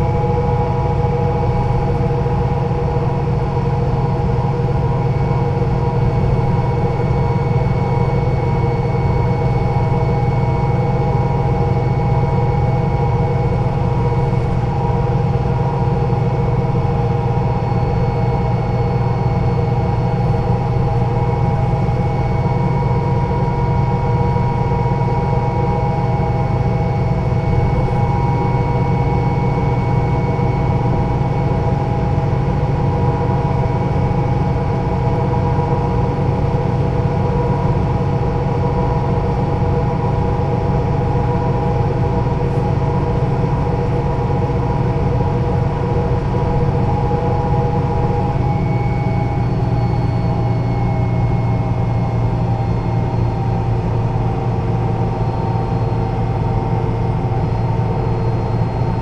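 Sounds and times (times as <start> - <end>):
bus diesel engine running: 0.0 - 59.0
thin steady whine: 0.0 - 59.0.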